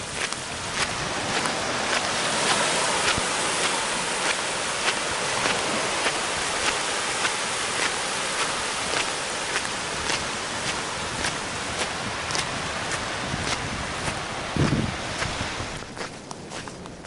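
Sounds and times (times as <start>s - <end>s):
waves hissing on beach: 0.0s - 16.7s
light ticks in step with walking: 0.1s - 17.0s.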